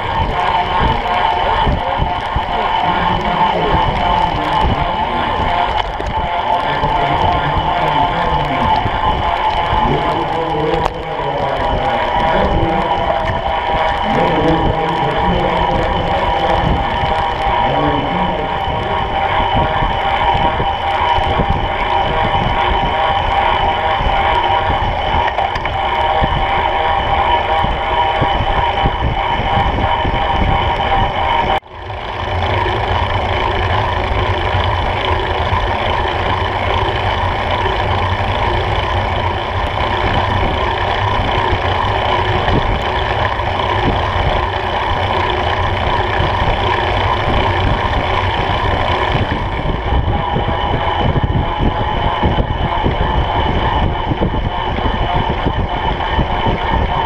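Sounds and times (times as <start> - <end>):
bicycle tyres rolling on wet tarmac: 0.0 - 57.0
steady hum: 0.0 - 57.0.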